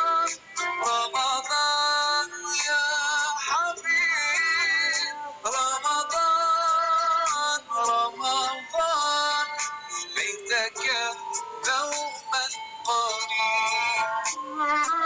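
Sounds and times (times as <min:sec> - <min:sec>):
music with synthetic singing voice: 0:00.0 - 0:15.0.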